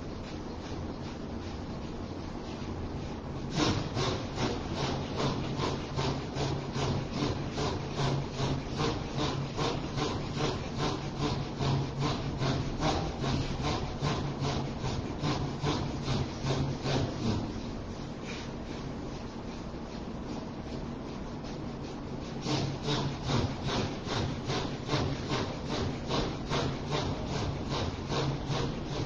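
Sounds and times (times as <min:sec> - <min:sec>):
raspy rhythmic breathing strokes: 0:00.0 - 0:29.0
steady low hum: 0:00.0 - 0:29.0.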